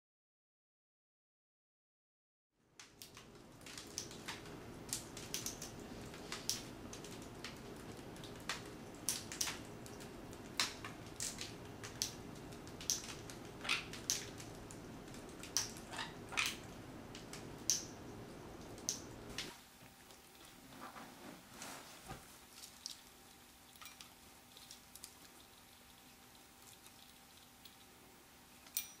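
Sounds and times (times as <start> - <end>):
steady background hum: 2.6 - 29.0
parrots crunching food: 2.8 - 20.7, 22.4 - 29.0.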